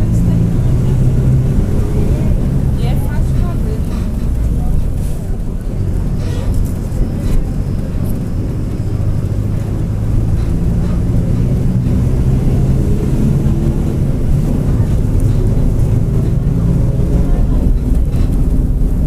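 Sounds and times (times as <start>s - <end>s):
diesel bus engine droning: 0.0s - 19.0s
rear differential growling: 0.0s - 19.0s.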